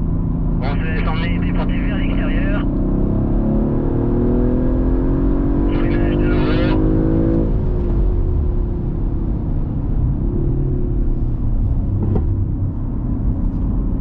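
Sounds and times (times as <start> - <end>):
road and tyre rumble: 0.0 - 14.0.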